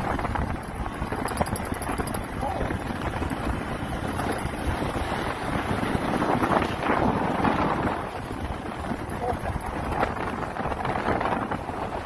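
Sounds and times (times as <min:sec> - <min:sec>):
rumbling road noise: 0:00.0 - 0:12.0
wind rushing over microphone: 0:00.0 - 0:12.0.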